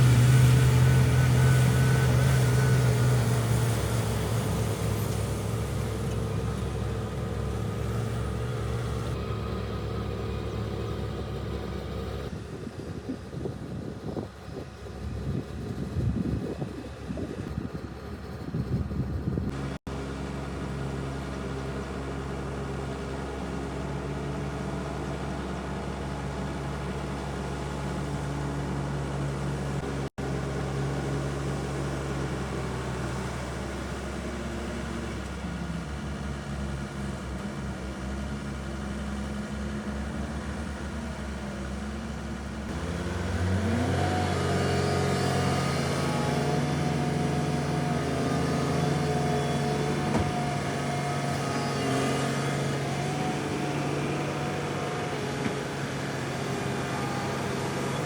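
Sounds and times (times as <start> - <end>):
heavy machine engine revving: 0.0 - 37.0, 42.1 - 58.0.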